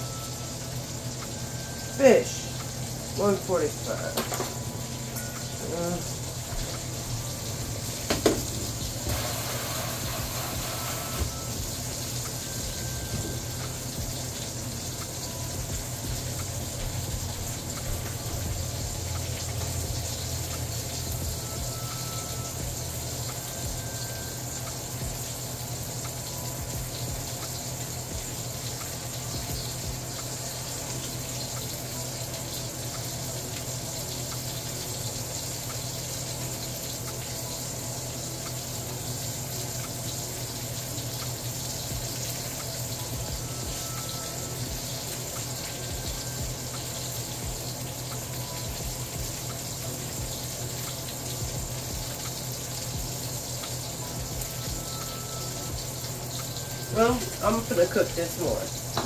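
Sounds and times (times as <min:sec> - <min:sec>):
fish sizzling in a frying pan: 0:00.0 - 0:59.0.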